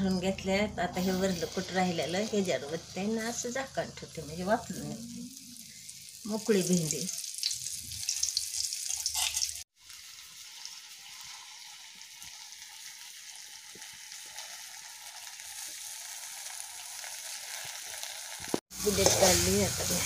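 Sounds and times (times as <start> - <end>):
okra frying in hot oil: 0.4 - 20.0.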